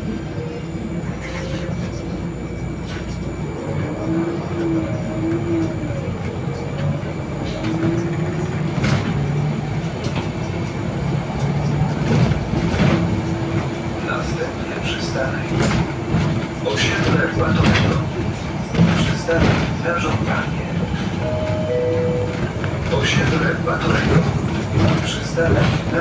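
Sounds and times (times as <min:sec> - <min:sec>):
bus drivetrain hum and whine: 0:00.0 - 0:26.0
rattles in bus cabin: 0:00.0 - 0:26.0
road and tyre noise: 0:00.0 - 0:26.0.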